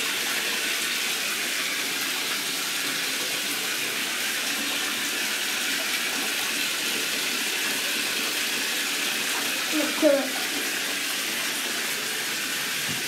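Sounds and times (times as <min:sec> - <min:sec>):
water pouring into bathtub: 0:00.0 - 0:13.0.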